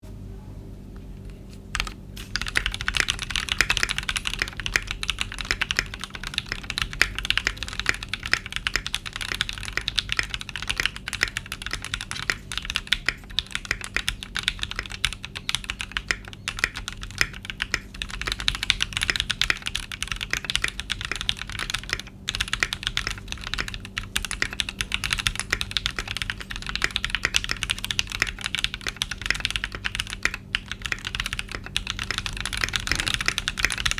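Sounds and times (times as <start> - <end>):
fast mechanical keyboard typing: 1.7 - 33.9.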